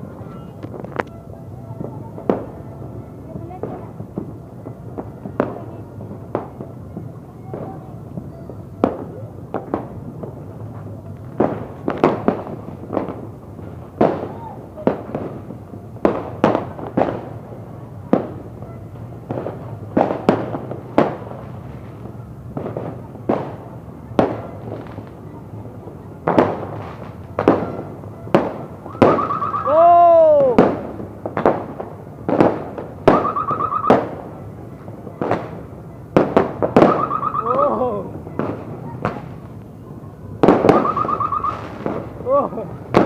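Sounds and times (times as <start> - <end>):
firework bangs: 0.0 - 43.0
whistling firework: 0.0 - 43.0.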